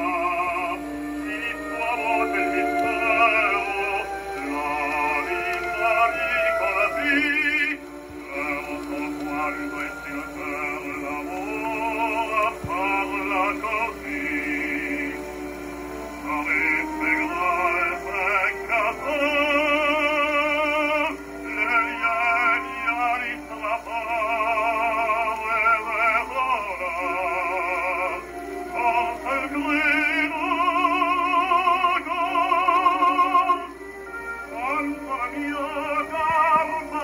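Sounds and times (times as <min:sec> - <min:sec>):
operatic duet with orchestra: 0:00.0 - 0:37.0.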